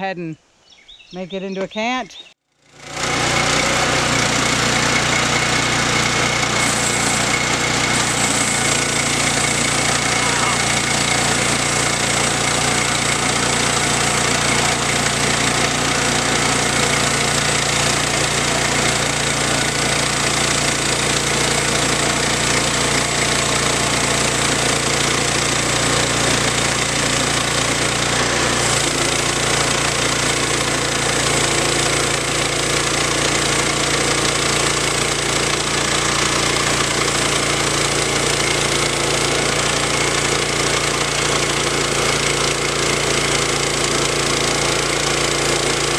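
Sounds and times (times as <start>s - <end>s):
bandsaw mill cutting log: 2.6s - 45.9s.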